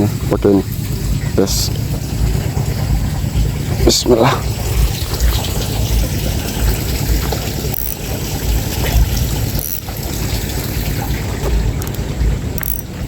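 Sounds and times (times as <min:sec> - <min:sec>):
low rumbles: 0:00.0 - 0:13.0
water trickling: 0:00.0 - 0:13.0.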